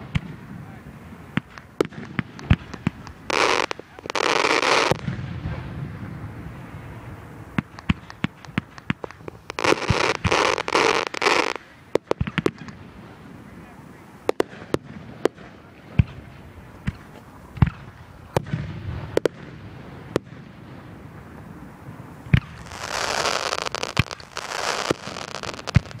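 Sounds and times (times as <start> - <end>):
fireworks bangs and pops: 0.0 - 26.0
fireworks crackling: 0.0 - 26.0.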